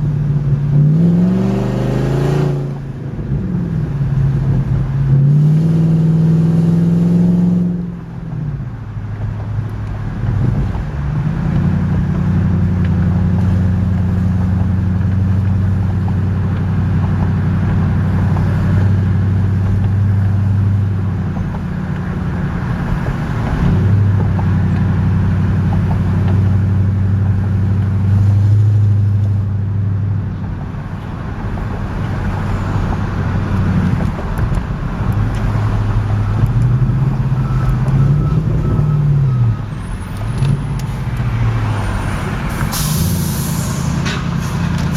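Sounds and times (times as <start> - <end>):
low car exhaust drone: 0.0 - 44.9.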